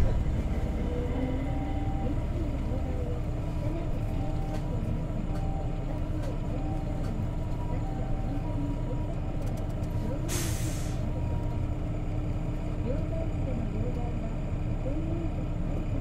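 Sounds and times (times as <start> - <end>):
bus engine low rumble: 0.0 - 16.0.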